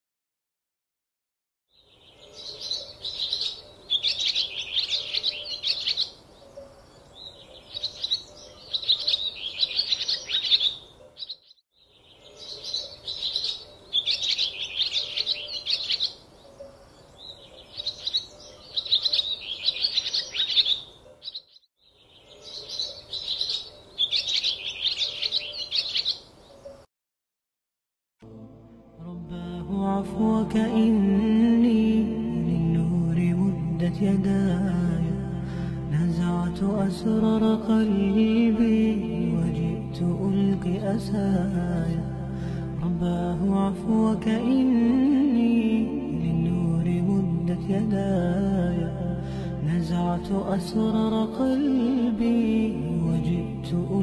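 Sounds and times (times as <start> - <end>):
birds chirping and singing: 1.7 - 26.9, 29.6 - 54.0.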